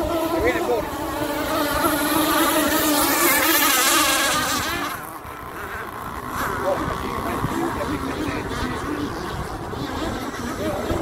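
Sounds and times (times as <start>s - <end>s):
model boat engines buzzing: 0.0s - 11.0s.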